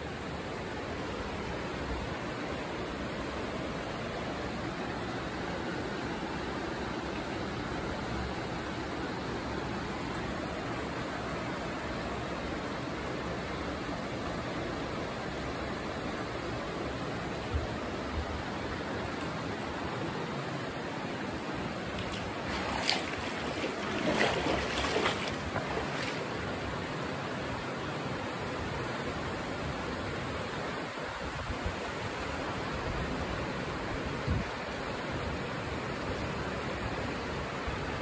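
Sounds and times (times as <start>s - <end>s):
river rushing through rocks: 0.0s - 38.0s.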